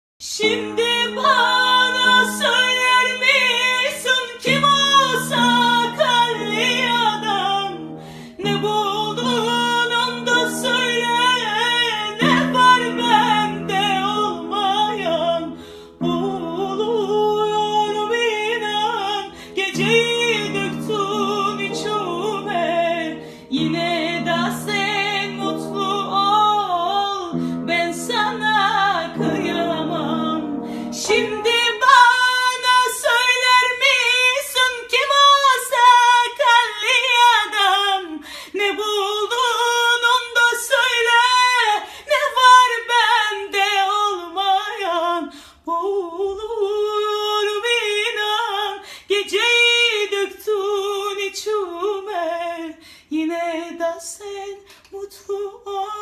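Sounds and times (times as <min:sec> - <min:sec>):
woman singing: 0:00.2 - 0:56.0.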